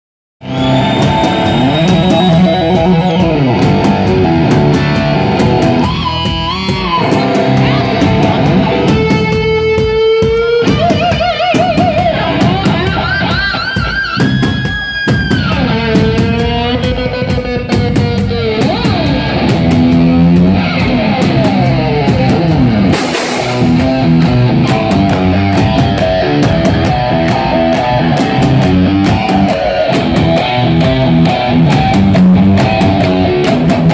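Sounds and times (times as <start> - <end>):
distorted electric guitar lead: 0.4 - 33.9
drum kit: 0.4 - 33.9.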